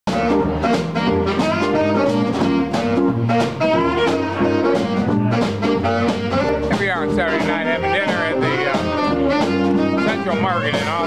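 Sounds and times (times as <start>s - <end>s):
live jazz band playing: 0.1s - 11.0s
saxophone melody: 0.1s - 11.0s.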